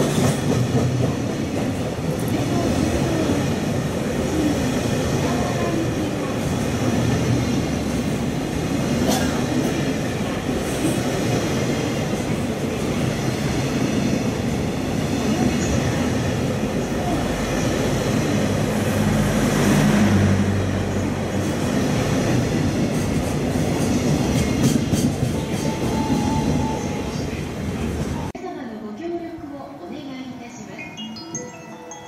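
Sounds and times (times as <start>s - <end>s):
freight train wagons rumbling: 0.0s - 28.3s.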